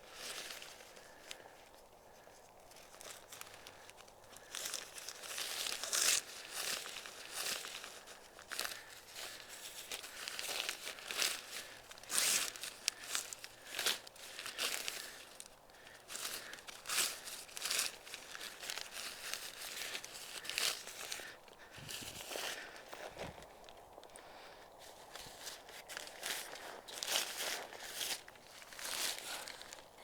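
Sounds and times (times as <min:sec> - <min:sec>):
tent fabric crinkling: 0:00.0 - 0:30.0.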